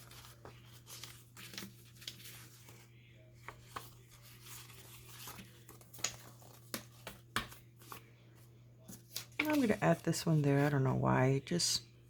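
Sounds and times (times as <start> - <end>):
paper rustling: 0.0 - 8.1, 8.8 - 10.7.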